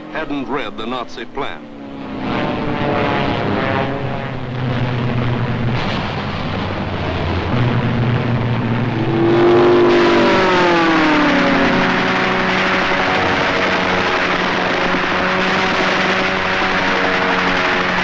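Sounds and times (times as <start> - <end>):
plane diving past: 0.0 - 18.0
propeller plane engine drone: 0.0 - 18.0.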